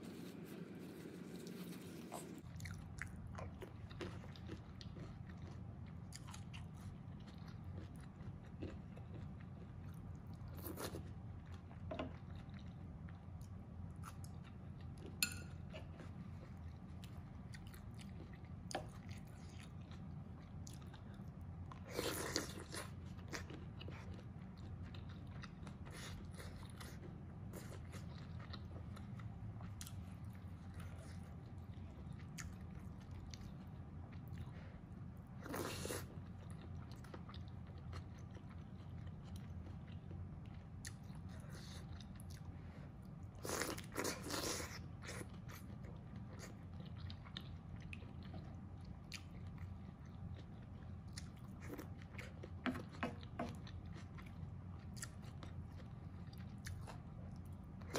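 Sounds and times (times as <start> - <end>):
person chewing food: 0.0 - 57.9
steady low hum: 0.0 - 57.9.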